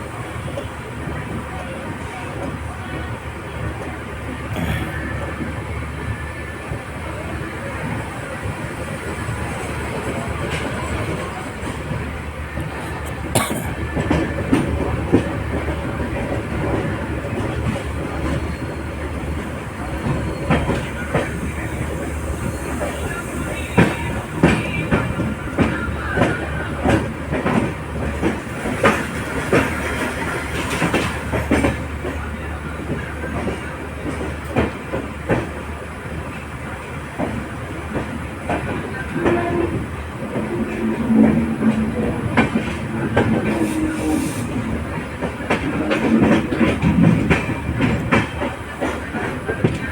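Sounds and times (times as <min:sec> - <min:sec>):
train rumbling on board: 0:00.0 - 0:49.9.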